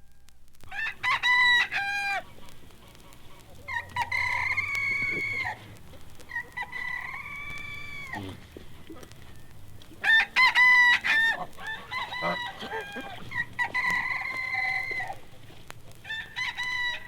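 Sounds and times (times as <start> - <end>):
rooster crowing: 0.0 - 2.3, 3.6 - 8.4, 9.3 - 15.3, 16.0 - 17.0.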